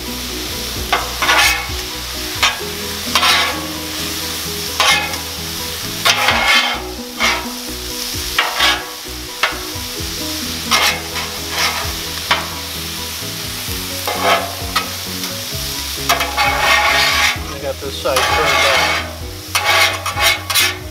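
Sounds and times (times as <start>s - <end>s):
food sizzling: 0.0s - 20.9s
metal spatulas scraping griddle: 0.9s - 7.7s, 8.3s - 9.8s, 10.5s - 13.1s, 13.9s - 20.9s.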